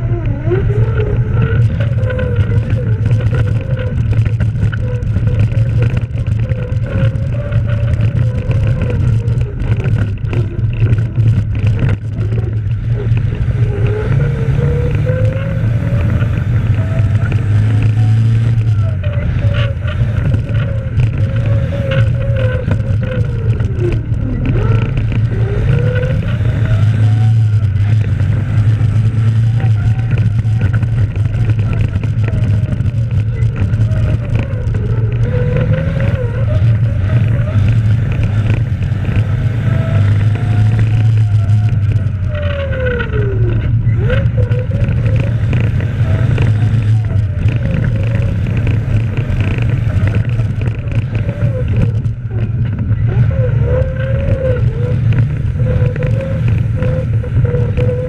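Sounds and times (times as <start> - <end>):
steady low drone: 0.0 - 53.6
heavy vehicle engine under load: 0.0 - 58.0.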